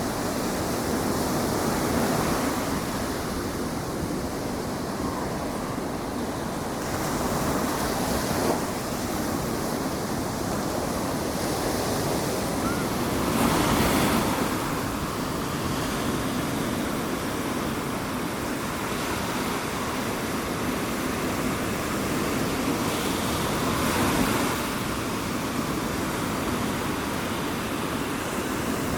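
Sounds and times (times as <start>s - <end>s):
ocean surf washing on beach: 0.0s - 28.9s
waves breaking: 0.0s - 28.9s.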